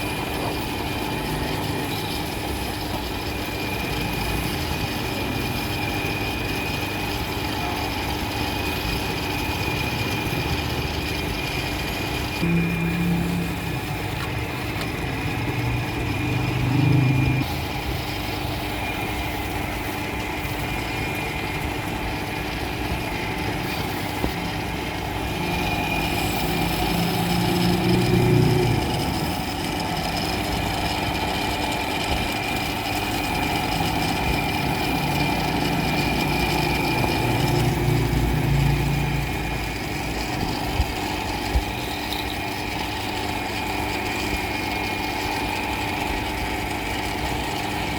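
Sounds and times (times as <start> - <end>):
motor humming and whining: 0.0 - 47.9.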